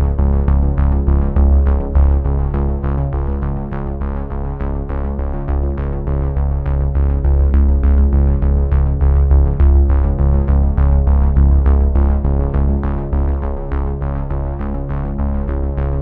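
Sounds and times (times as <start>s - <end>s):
music with heavy bass: 0.0s - 16.0s.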